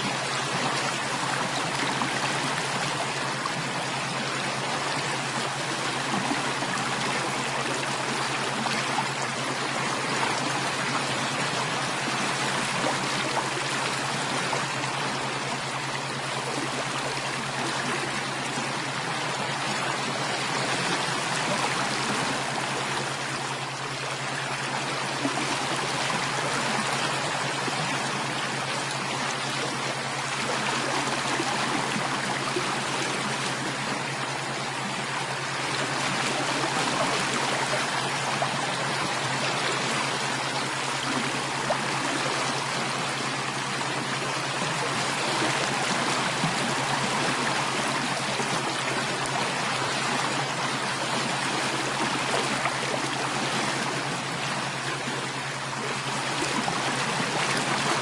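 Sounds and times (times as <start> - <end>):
constant low hum: 0.0 - 58.0
stream water rushing: 0.0 - 58.0.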